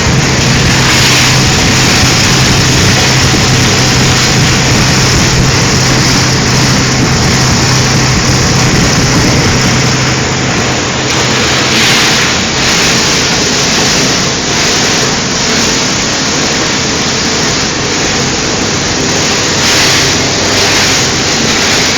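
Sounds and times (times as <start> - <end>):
low motor hum: 0.0 - 21.9
shredder machine running: 0.0 - 21.9.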